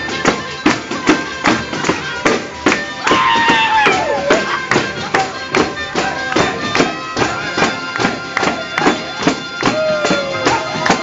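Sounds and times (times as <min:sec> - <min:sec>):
bagpipe drone: 0:00.0 - 0:11.0.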